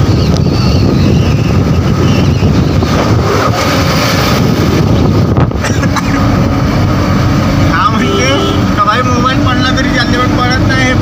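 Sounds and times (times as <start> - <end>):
truck road and engine rumble: 0.0 - 11.0
wind buffeting microphone: 0.0 - 11.0.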